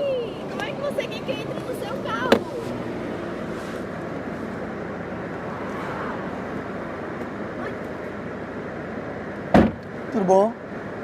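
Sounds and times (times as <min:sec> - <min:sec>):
street and vehicle noise: 0:00.0 - 0:11.0.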